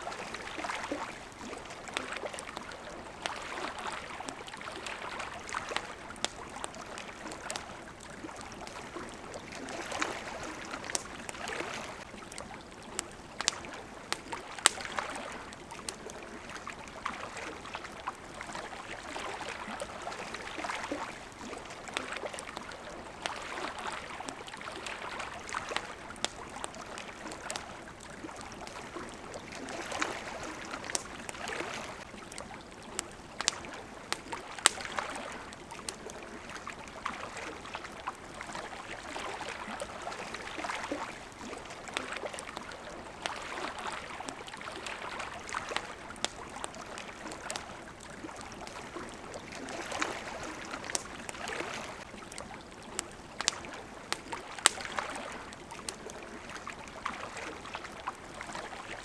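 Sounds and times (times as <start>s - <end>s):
campfire crackling and popping: 0.0s - 59.0s
small waves lapping: 0.0s - 59.0s.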